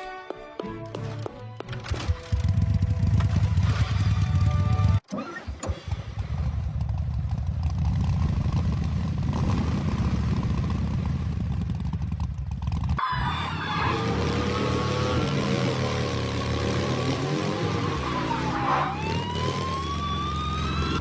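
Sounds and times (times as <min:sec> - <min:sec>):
vehicle engine starting and running: 0:00.9 - 0:21.0.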